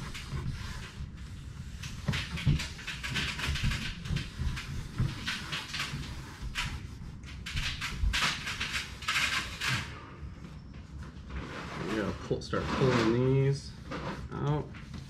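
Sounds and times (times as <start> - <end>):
hands rubbing on panel: 0.0 - 9.7, 11.4 - 15.0.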